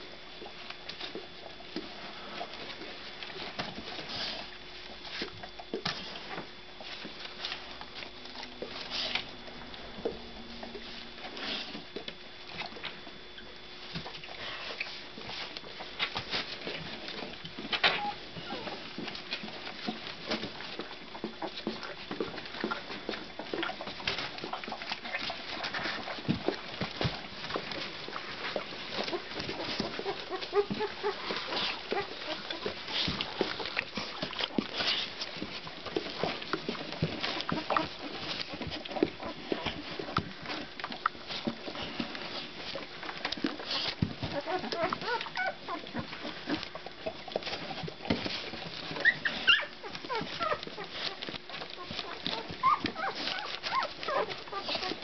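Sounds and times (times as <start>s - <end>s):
paws scratching on newspaper: 0.3s - 13.2s, 13.8s - 55.0s
puppies squeaking and grunting: 1.0s - 55.0s.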